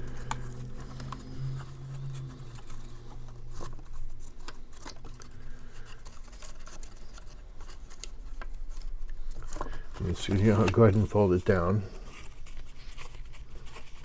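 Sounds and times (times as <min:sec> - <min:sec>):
cardstock being folded by hand: 0:00.0 - 0:14.0
paper taps clicks and rustles: 0:00.0 - 0:14.0.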